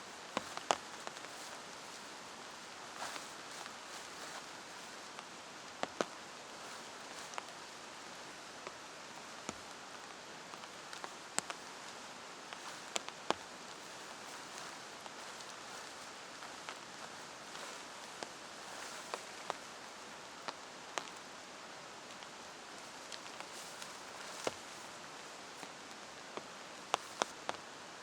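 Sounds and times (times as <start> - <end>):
rain hiss: 0.0 - 28.0.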